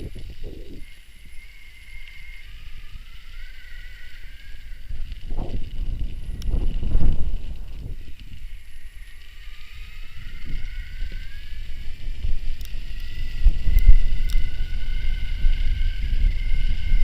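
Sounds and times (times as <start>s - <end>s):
electric bike motor whining: 0.0s - 17.0s
wind buffeting microphone: 0.0s - 17.0s.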